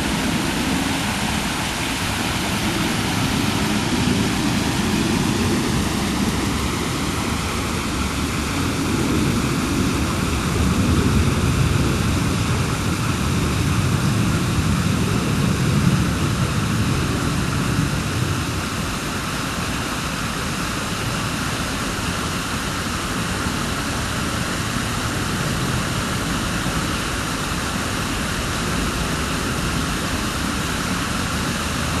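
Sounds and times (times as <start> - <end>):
deep water rumble: 0.0 - 32.0
waterfall splashing: 0.0 - 32.0.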